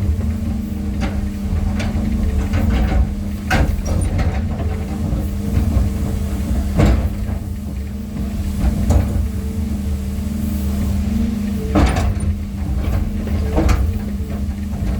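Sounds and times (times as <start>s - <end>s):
heavy engine running: 0.0s - 14.9s.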